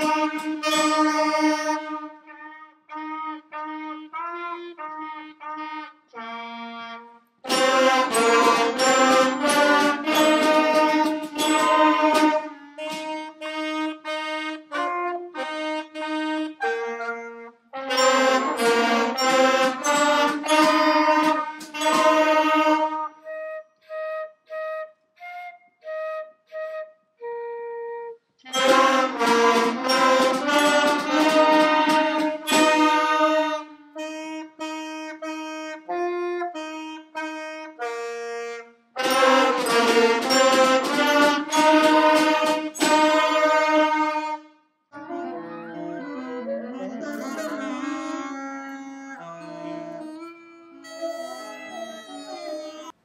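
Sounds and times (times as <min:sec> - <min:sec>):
children's wind band playing: 0:00.0 - 0:53.0.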